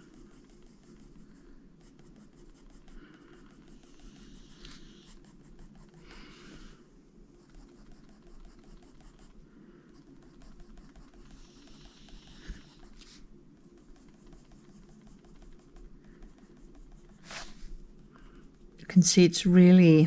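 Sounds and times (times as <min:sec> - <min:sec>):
pencil scratching on paper: 0:00.0 - 0:06.8, 0:07.4 - 0:20.0
low steady hum: 0:00.0 - 0:20.0.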